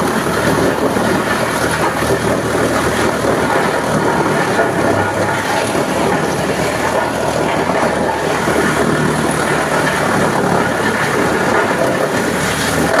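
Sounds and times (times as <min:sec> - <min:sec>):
wood-cutting machine running: 0:00.0 - 0:13.0.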